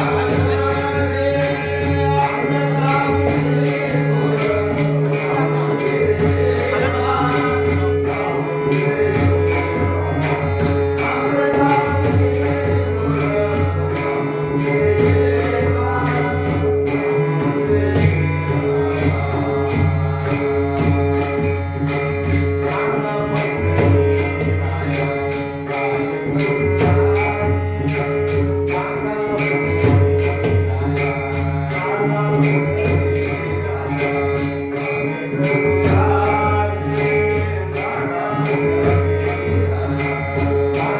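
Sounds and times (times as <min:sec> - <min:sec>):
jingling percussion strikes: 0:00.0 - 0:40.9.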